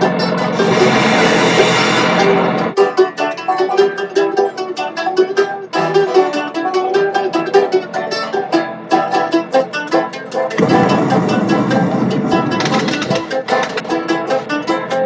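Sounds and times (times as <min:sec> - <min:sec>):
quick plucked notes: 0:00.0 - 0:15.0.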